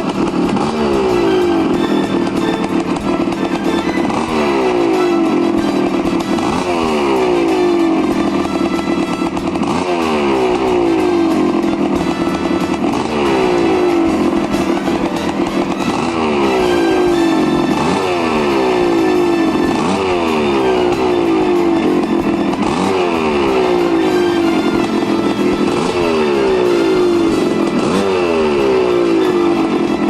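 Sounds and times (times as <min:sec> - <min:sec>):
two-stroke engine revving: 0:00.0 - 0:30.0.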